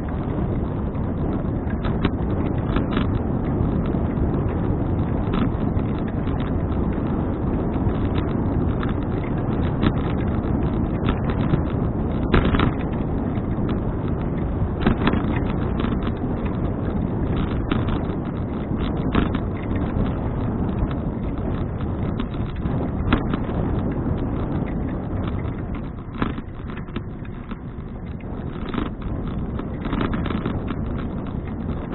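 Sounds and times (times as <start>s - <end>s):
bike clicks and knocks: 0.0s - 31.9s
wind rushing over microphone: 0.0s - 31.9s.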